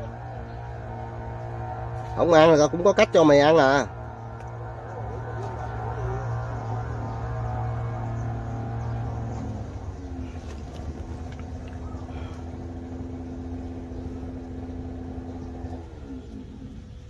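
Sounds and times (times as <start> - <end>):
motor engine running: 0.0 - 17.0.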